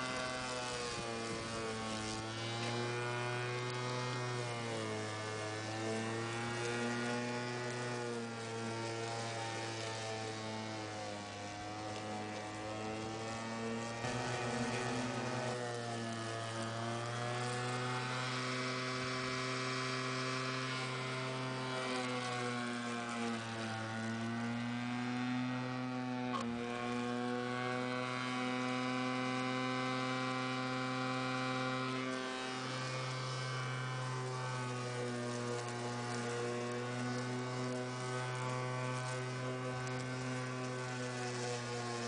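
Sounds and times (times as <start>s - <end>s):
lawn mower running: 0.0s - 42.0s.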